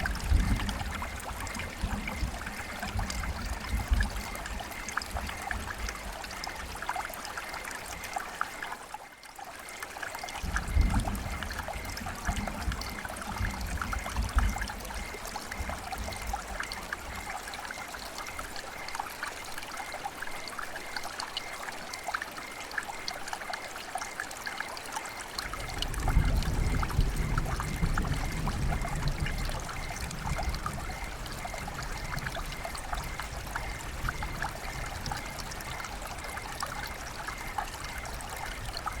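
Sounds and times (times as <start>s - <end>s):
river water flowing and trickling: 0.0s - 39.0s.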